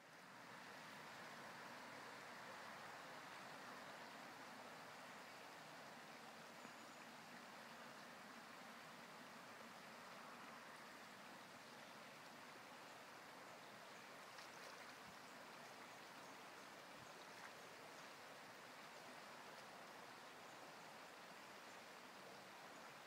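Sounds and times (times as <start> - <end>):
river flowing over stones: 0.0 - 23.0.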